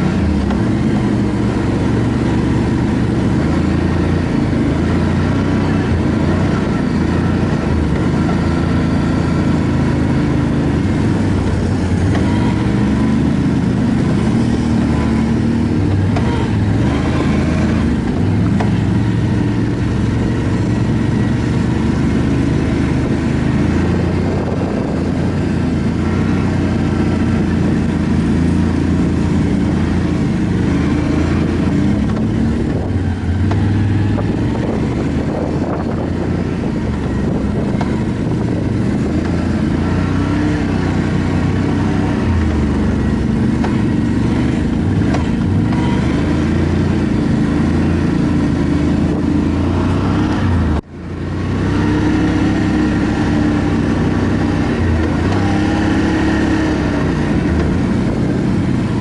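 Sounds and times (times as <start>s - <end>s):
atv engine running: 0.0s - 59.0s
wind rumble noise: 0.0s - 59.0s.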